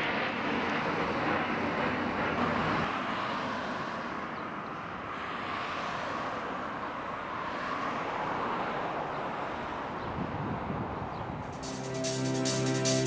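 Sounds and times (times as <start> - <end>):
cars passing on a road: 0.0 - 13.0.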